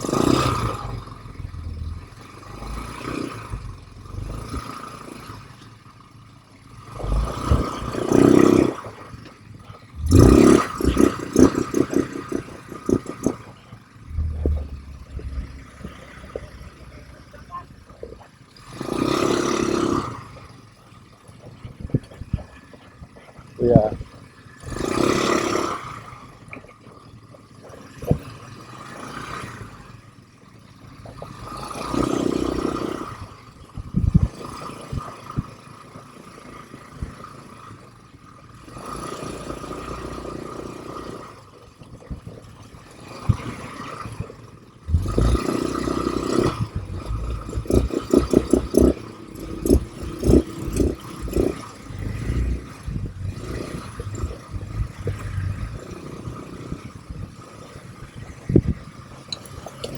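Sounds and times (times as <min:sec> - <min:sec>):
quad engine revving: 0:00.0 - 0:30.1, 0:30.7 - 0:59.9.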